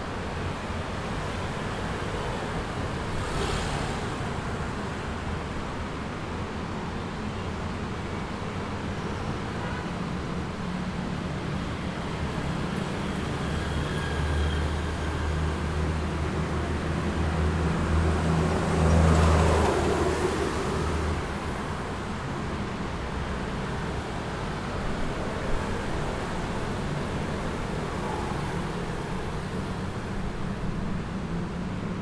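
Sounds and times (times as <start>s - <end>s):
hum of passing traffic: 0.0s - 32.0s.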